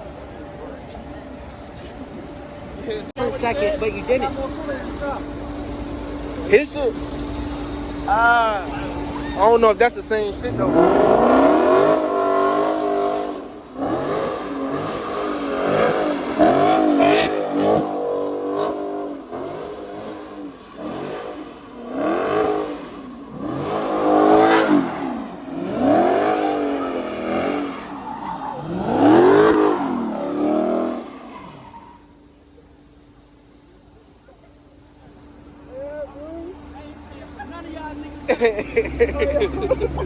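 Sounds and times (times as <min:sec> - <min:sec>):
car engine revving: 0:00.0 - 0:32.4, 0:35.1 - 0:40.0.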